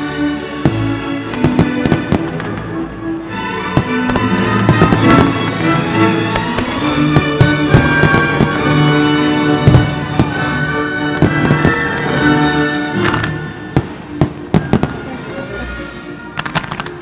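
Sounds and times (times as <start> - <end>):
show music with held notes: 0.0 - 17.0.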